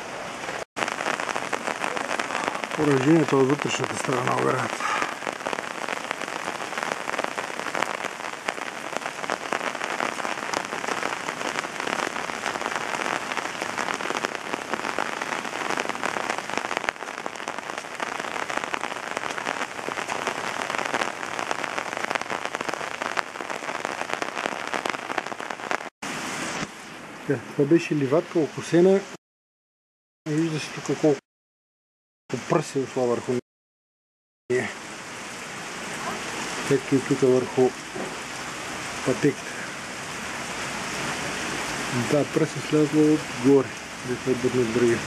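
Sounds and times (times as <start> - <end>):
rain on foliage and ground: 0.0 - 29.1, 30.3 - 31.2, 34.5 - 45.0.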